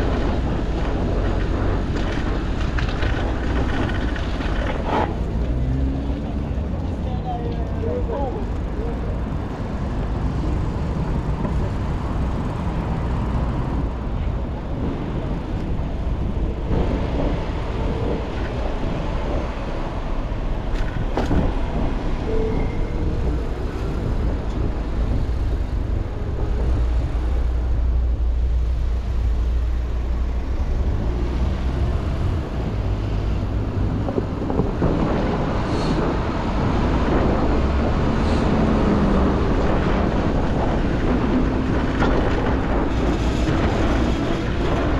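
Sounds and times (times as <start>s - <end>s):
city street traffic: 0.0s - 44.9s
wind rumble on microphone: 0.0s - 44.9s.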